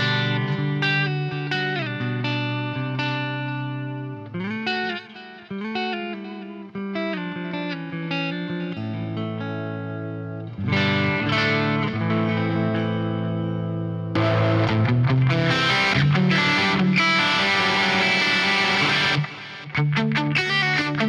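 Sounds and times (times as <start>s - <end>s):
electric guitar through tube amp: 0.0s - 21.0s.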